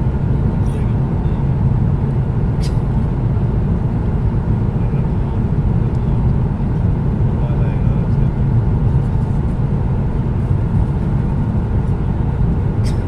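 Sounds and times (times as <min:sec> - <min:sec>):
airliner cabin engine roar: 0:00.0 - 0:13.0.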